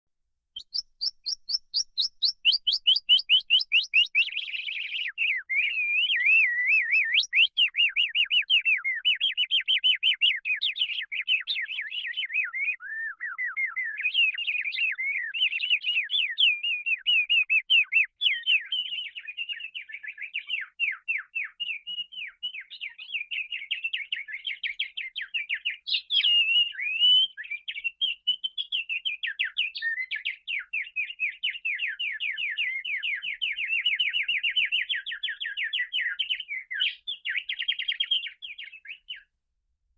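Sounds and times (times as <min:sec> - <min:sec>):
canary singing trills: 0:00.6 - 0:39.3.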